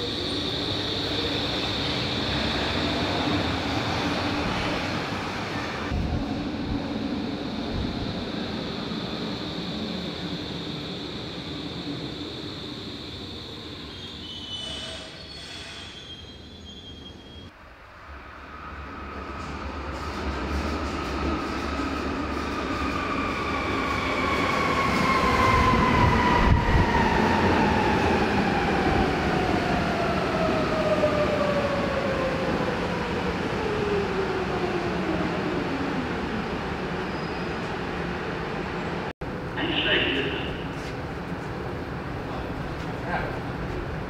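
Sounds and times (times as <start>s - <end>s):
subway train running noise: 0.0s - 44.0s.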